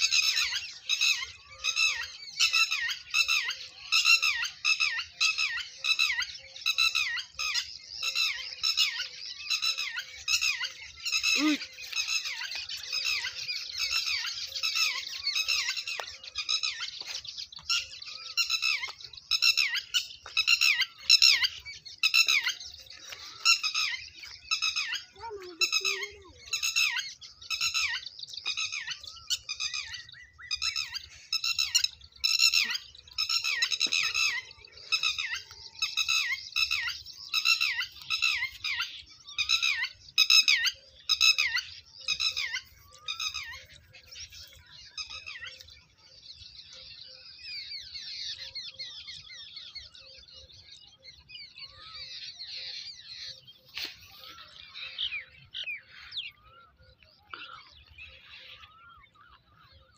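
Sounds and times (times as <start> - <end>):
birds calling in short high calls: 0.0 - 59.9.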